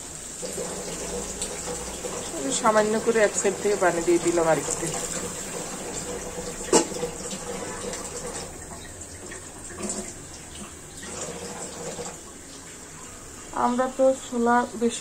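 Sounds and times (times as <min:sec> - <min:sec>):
curry bubbling and hissing: 0:00.0 - 0:15.0.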